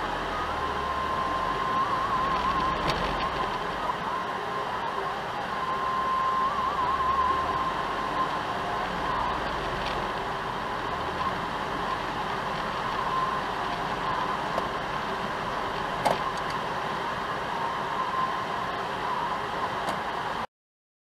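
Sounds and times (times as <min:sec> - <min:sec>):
car cabin road and engine noise: 0:00.0 - 0:20.5
faint steady tone: 0:00.0 - 0:20.5.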